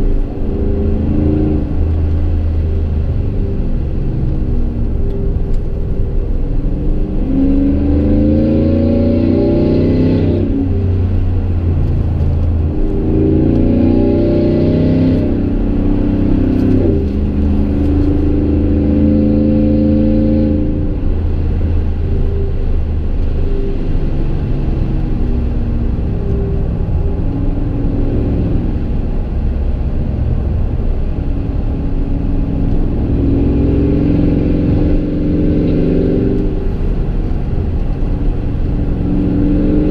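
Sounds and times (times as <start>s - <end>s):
truck exhaust drone accelerating: 0.0s - 39.9s.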